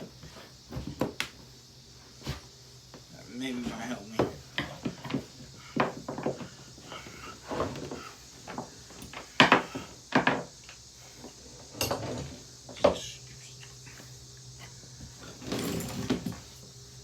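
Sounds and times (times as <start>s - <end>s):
knocks and clatters of vacuum parts: 0.0s - 1.5s, 2.2s - 13.2s, 15.0s - 16.7s.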